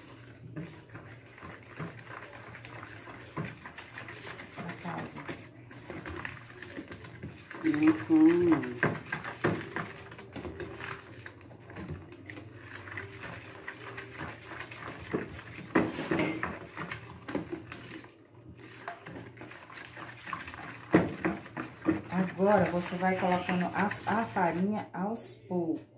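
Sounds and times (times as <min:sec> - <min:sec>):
wooden spoon stirring batter: 0:00.0 - 0:25.3.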